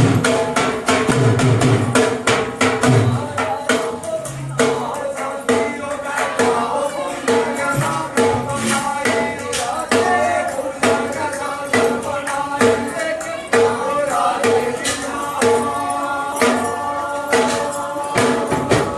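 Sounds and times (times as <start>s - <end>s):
music with percussive beat: 0.0s - 18.9s.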